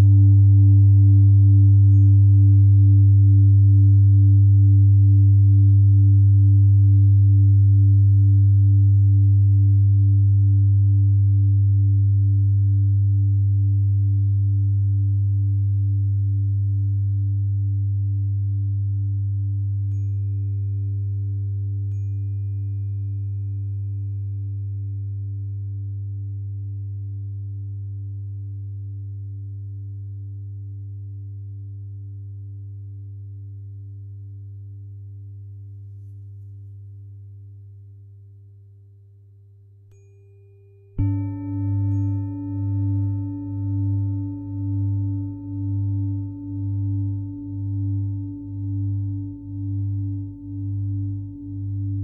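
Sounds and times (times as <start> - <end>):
singing bowl humming: 0.0 - 52.0
tuning fork tone: 0.0 - 52.0.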